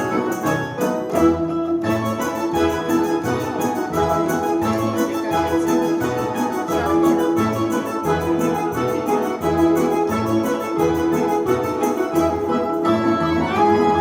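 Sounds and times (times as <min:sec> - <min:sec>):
sustained keyboard notes: 0:00.0 - 0:14.0.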